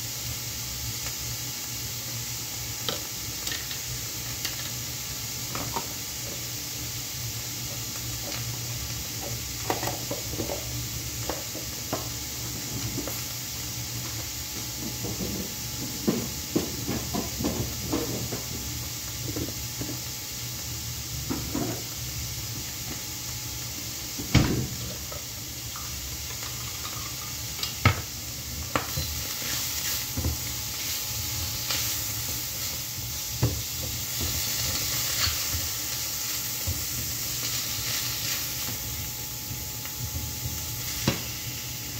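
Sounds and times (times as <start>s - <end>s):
fat sizzling in frying pan: 0.0s - 41.9s.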